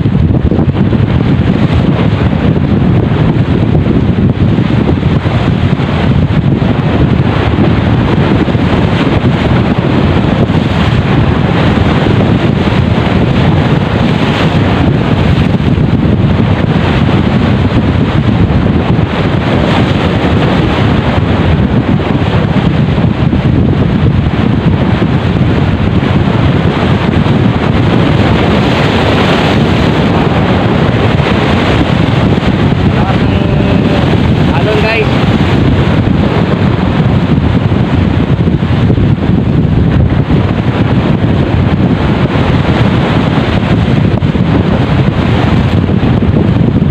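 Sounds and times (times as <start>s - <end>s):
wind buffeting microphone: 0.0s - 46.9s
sea waves breaking on boulders: 0.1s - 46.9s.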